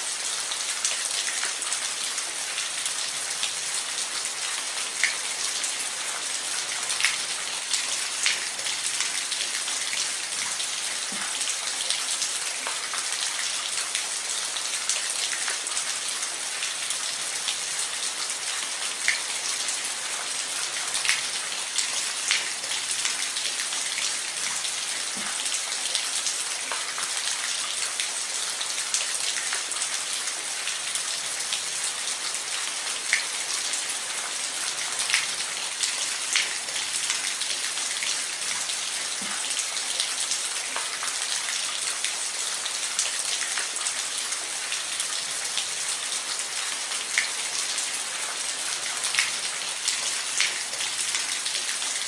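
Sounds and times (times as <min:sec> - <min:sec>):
rain falling on a roof: 0:00.0 - 0:52.0.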